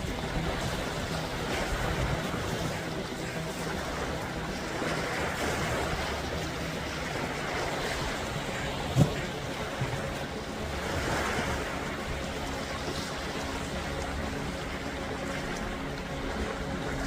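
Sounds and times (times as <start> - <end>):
sea waves washing: 0.0 - 17.0
wind on microphone: 0.0 - 17.0.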